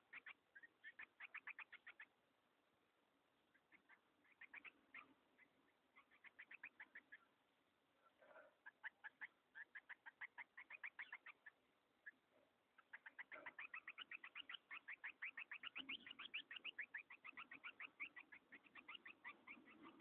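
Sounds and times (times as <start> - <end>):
birds chirping rapidly: 0.0 - 2.3, 3.2 - 20.0.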